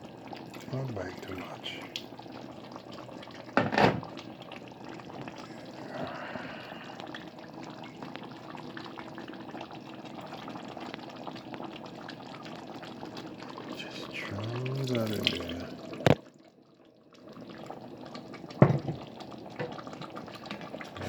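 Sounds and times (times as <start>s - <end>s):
gravy bubbling in a pot: 0.0s - 21.0s.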